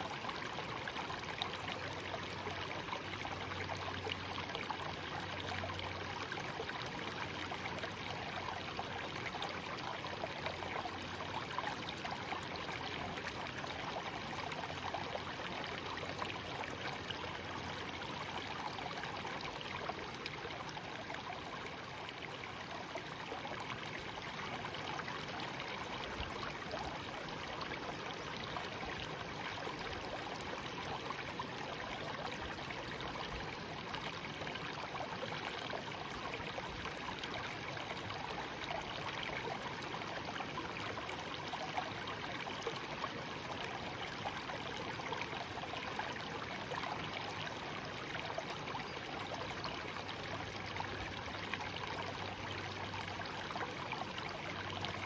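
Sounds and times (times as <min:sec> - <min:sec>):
shallow stream flowing: 0:00.0 - 0:55.0.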